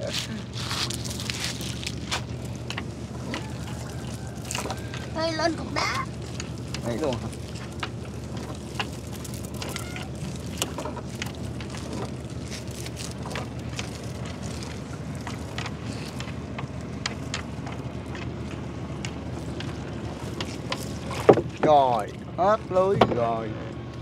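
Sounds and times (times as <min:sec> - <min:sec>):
steady low hum: 0:00.0 - 0:24.0
water dripping and splashing: 0:00.6 - 0:22.8
net fittings ticking and knocking: 0:01.6 - 0:23.4.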